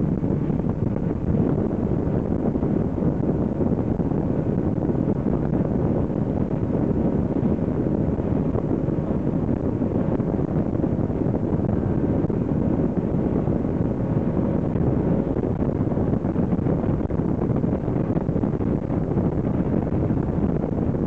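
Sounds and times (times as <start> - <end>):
boat rumble and water: 0.0 - 21.0
wind buffeting microphone: 0.0 - 21.0.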